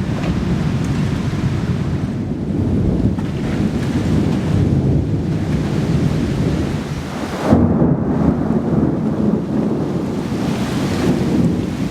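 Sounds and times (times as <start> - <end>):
sharp crack of thunder: 0.0 - 11.9
steady rain: 0.0 - 11.9
thunder rumbling: 0.0 - 11.9.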